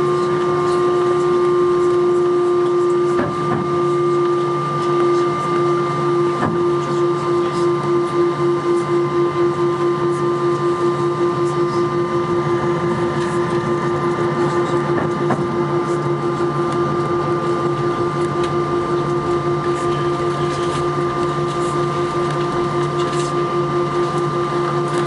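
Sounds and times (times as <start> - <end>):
jet engines idling in cabin: 0.0 - 25.0.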